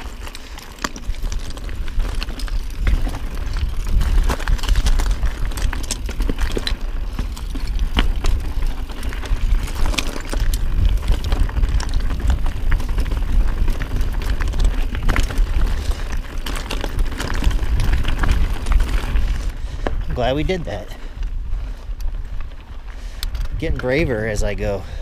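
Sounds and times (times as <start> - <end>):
tyres clicking and rattling on stones: 0.0 - 21.3, 21.9 - 25.0
bike rolling rumble: 0.0 - 25.0.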